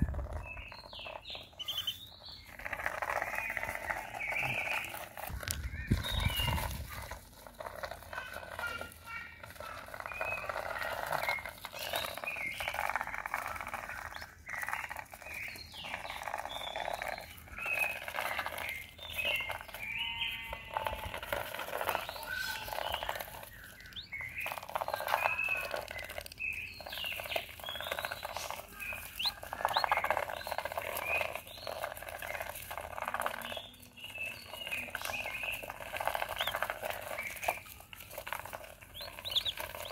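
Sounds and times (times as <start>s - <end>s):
ducklings chirping whistles: 0.0s - 7.2s, 7.9s - 39.9s
scratchy rustle: 0.0s - 39.9s.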